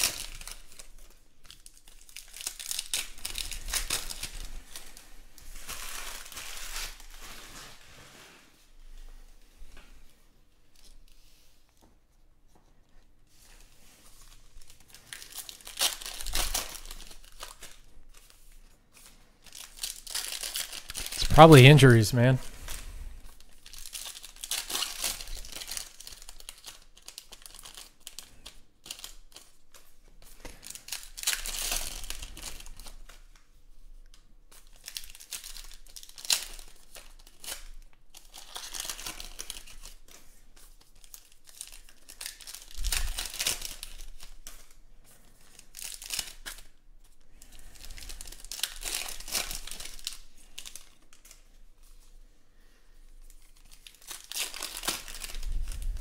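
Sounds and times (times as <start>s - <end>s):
foil wrappers crinkling and tearing: 0.0s - 8.0s, 13.9s - 21.3s, 23.3s - 33.3s, 34.5s - 52.1s, 53.2s - 56.0s.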